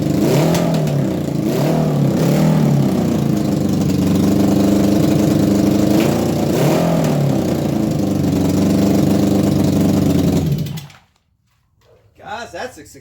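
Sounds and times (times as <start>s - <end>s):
motorcycle engine running: 0.0s - 10.9s
engine revving: 0.0s - 11.0s.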